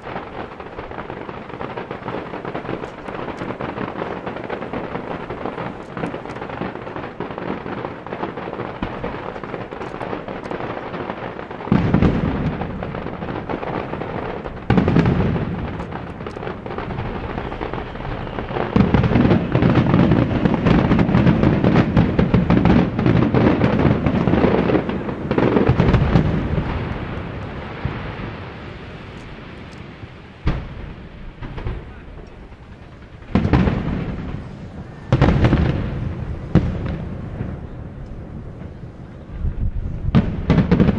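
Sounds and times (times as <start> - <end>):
fireworks crackling and popping: 0.0 - 40.9
heavy firework booms: 0.0 - 40.9.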